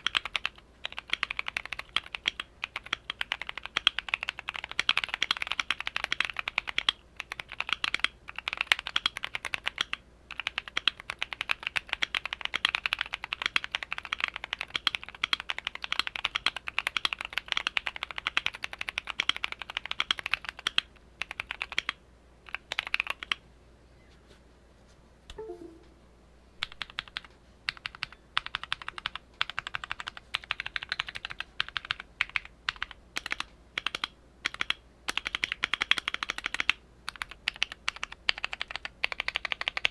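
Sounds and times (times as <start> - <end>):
mechanical keyboard typing: 0.0 - 23.4, 26.6 - 39.9.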